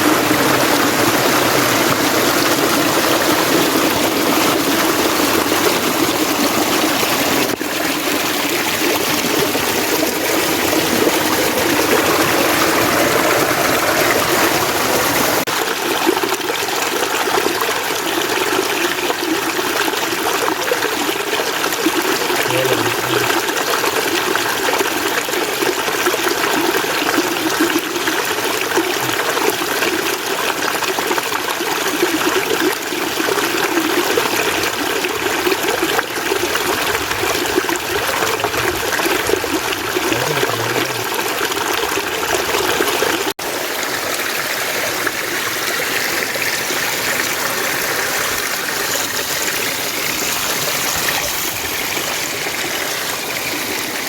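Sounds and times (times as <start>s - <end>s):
stream water rushing over rocks: 0.0s - 54.0s.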